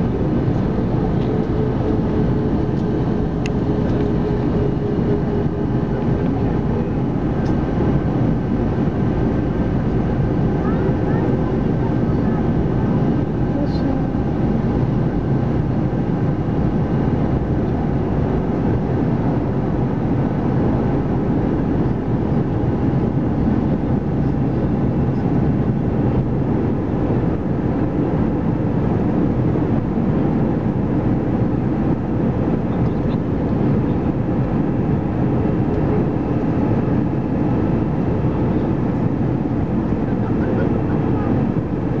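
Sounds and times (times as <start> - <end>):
engine and rushing air rumble: 0.0 - 42.0
faint hum: 0.0 - 42.0.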